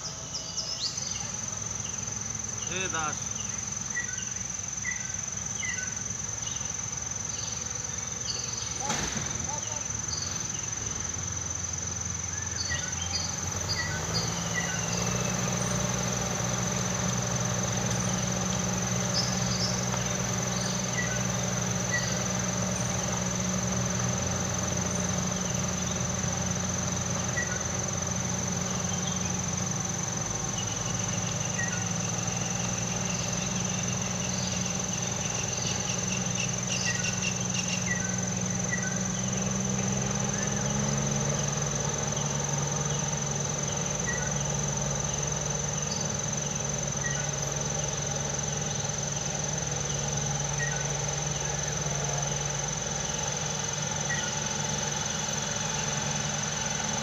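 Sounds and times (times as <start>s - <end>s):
bird chirps: 0.0s - 11.1s, 12.2s - 56.0s
high-pitched insect drone: 0.0s - 57.0s
low mechanical hum: 0.0s - 57.0s.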